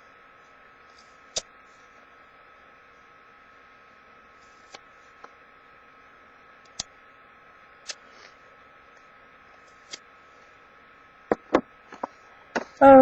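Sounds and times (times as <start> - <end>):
faint hiss and hum: 0.0 - 13.0.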